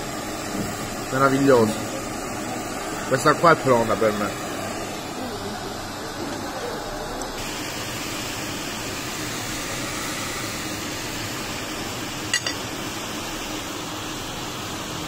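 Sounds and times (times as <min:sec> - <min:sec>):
ventilation hiss and hum: 0:00.0 - 0:15.0.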